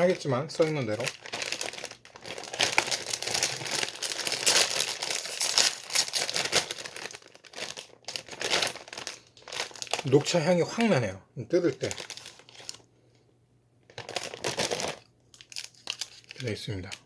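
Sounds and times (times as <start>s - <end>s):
plastic wrapper crinkling: 0.0s - 12.9s, 13.8s - 17.0s.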